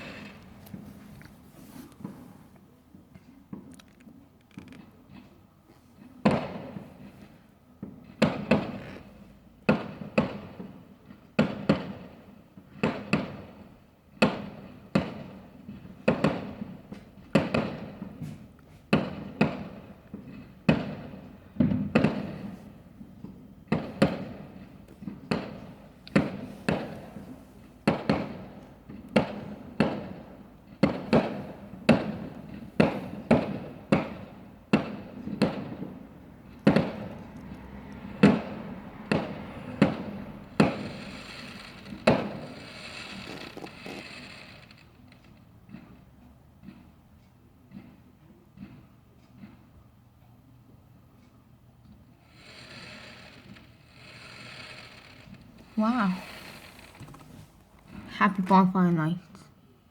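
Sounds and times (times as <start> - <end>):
fireworks bangs: 0.0 - 46.8, 52.1 - 59.5.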